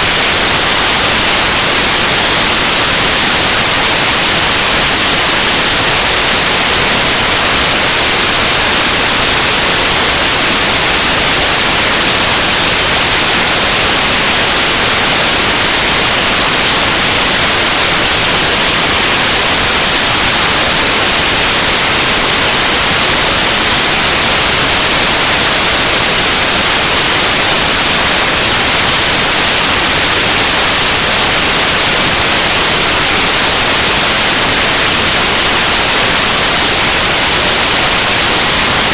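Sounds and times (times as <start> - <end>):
loud static hiss: 0.0 - 38.9.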